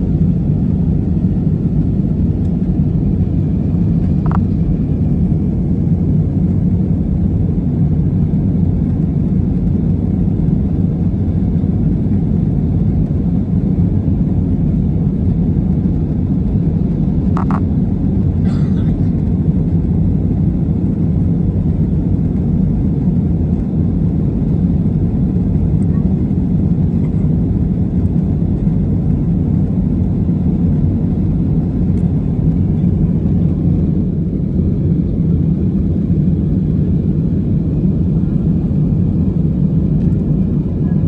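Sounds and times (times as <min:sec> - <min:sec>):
airplane cabin engine rumble: 0:00.0 - 0:41.0.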